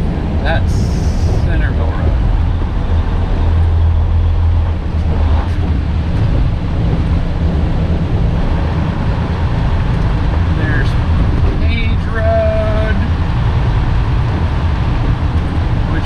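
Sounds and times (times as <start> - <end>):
road noise: 0.0 - 16.0
truck diesel engine drone: 0.0 - 16.0.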